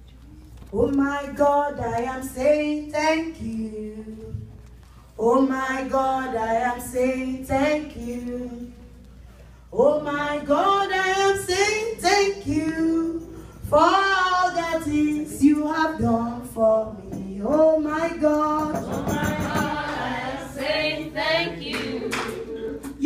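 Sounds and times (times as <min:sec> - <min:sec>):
woman singing gospel song: 0:00.7 - 0:04.5, 0:05.2 - 0:09.0, 0:09.7 - 0:23.0.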